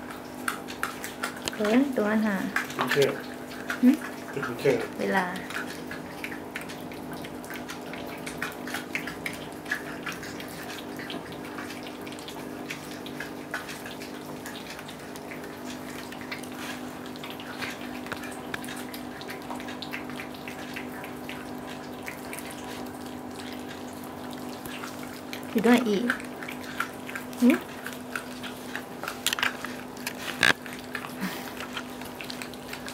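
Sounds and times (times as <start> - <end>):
animals gnawing bones: 0.0 - 32.9.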